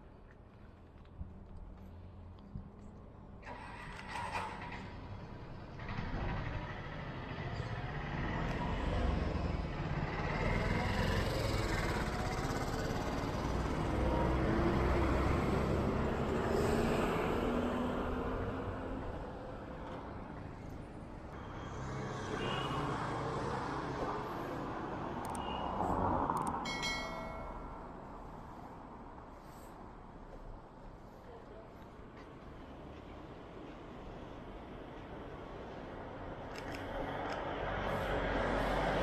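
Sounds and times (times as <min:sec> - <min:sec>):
vehicle engines passing: 0:03.4 - 0:39.0.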